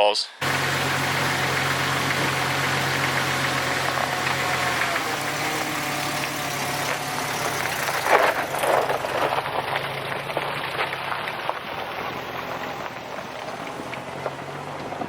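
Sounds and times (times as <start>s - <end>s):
road noise: 0.0s - 15.0s
car engine running: 0.4s - 15.0s.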